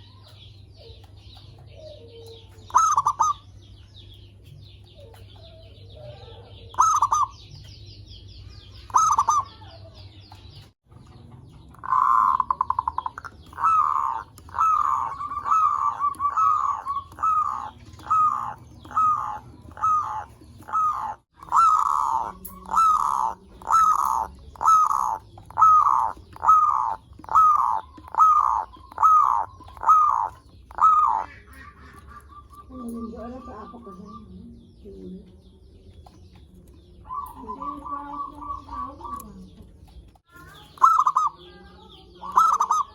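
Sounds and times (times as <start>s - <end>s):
dove cooing: 0.0s - 3.6s, 4.9s - 7.7s, 8.7s - 10.2s, 11.7s - 35.4s, 36.3s - 42.9s
small birds chirping: 0.0s - 42.9s.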